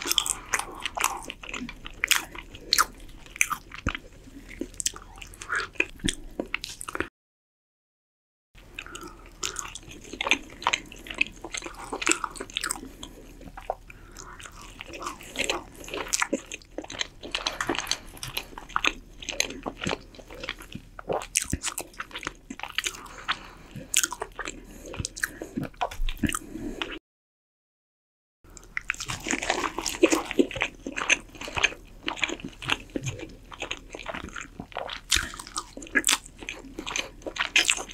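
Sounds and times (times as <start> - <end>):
biting and chewing: 0.0 - 7.1, 8.6 - 27.0, 28.5 - 37.9.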